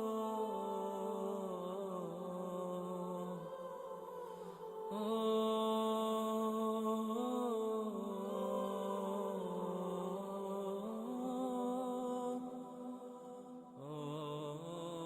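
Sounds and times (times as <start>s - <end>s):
wordless vocal humming: 0.0s - 15.0s.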